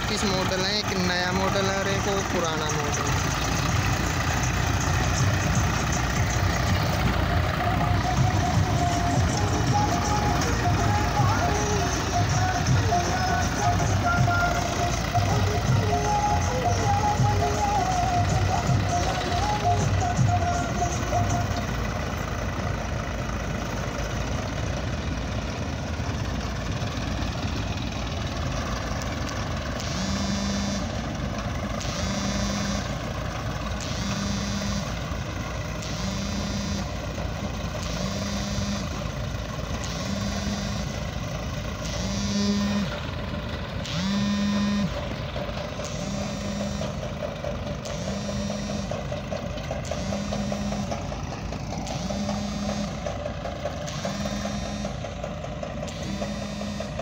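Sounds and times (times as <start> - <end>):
reversing alarm beeping: 0.0 - 24.4, 25.4 - 57.0
diesel tractor engine running: 0.0 - 57.0.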